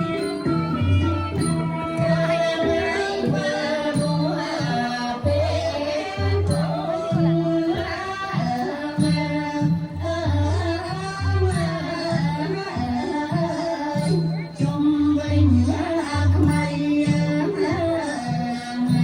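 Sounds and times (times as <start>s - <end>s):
ornamented traditional melody: 0.0s - 19.0s.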